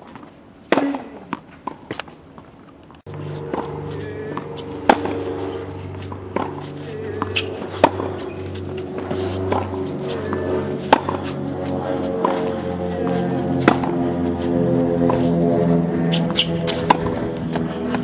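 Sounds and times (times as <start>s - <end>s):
tennis racket hitting ball: 0.7s - 1.8s, 3.1s - 18.0s.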